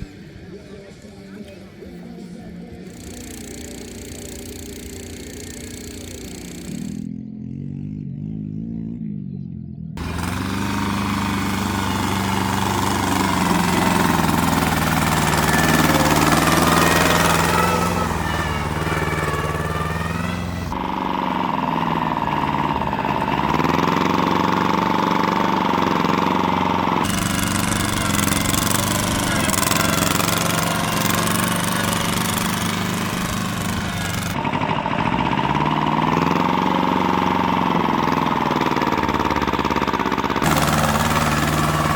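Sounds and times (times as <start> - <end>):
tractor engines revving: 0.0 - 8.8, 10.0 - 41.9.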